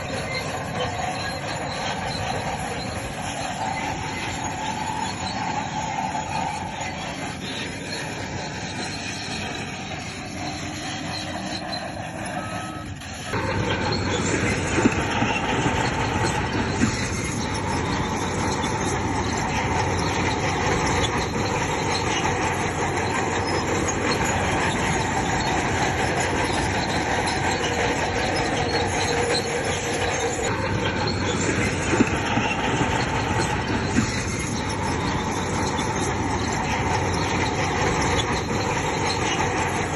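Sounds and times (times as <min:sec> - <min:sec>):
bulldozer diesel engine under load: 0:00.0 - 0:39.9
steel tracks grinding and squealing: 0:00.0 - 0:39.9.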